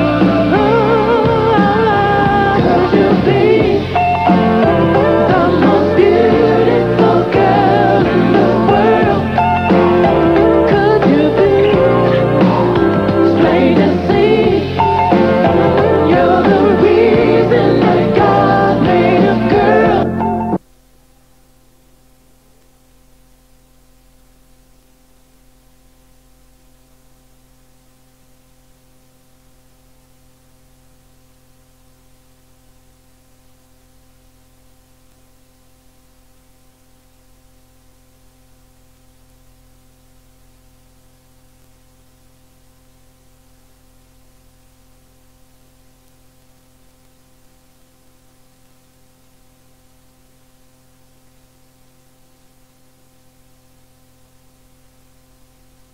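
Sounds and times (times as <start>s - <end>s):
electrical hum: 0.0s - 55.9s
tape hiss: 0.0s - 55.9s.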